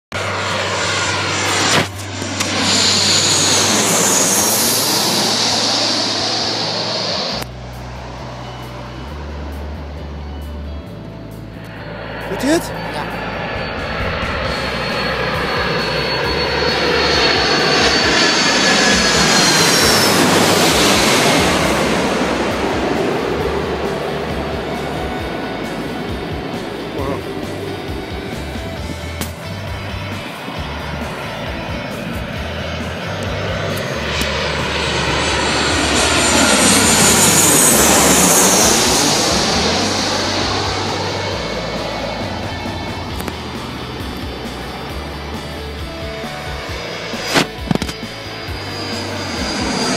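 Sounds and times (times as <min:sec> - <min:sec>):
high jet whine: 0:00.1 - 0:49.9
jet engine noise: 0:00.1 - 0:49.9.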